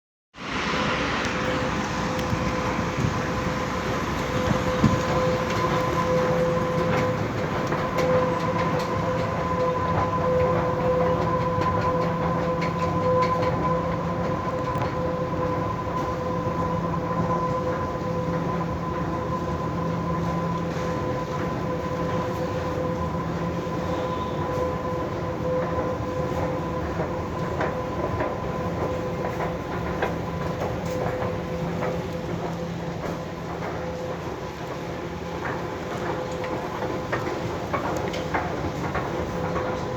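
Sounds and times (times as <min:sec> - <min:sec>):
escalator mechanical drone: 0:00.4 - 0:39.9
escalator steps clicking: 0:01.5 - 0:39.9.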